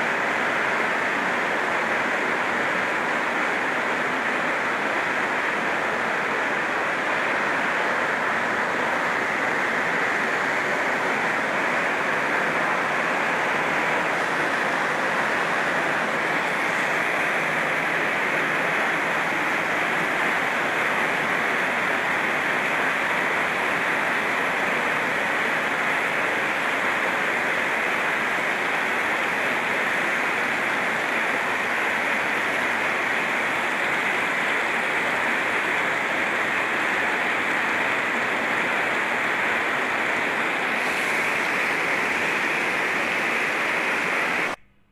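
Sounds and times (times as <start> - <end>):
heavy rain on a tin roof: 0.0 - 44.6.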